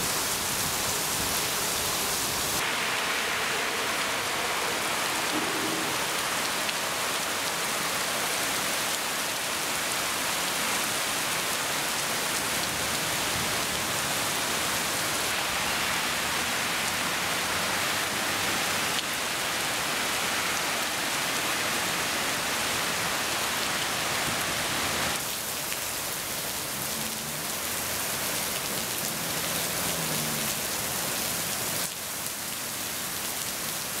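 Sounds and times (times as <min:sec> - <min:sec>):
heavy rain on pavement: 0:00.0 - 0:34.0.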